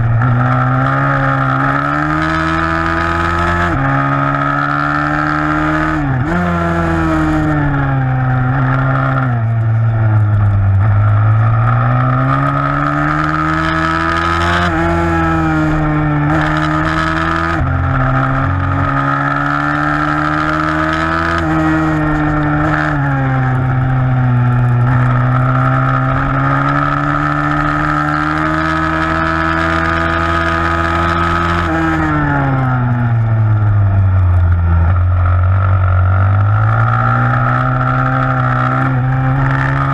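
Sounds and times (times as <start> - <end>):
pit bike engine revving: 0.0 - 33.5, 34.2 - 39.9.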